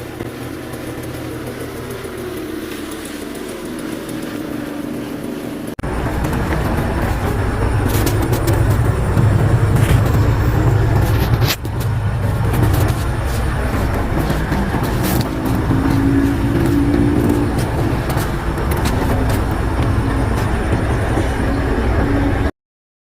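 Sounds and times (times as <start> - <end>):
engine rumbling: 0.0 - 22.5.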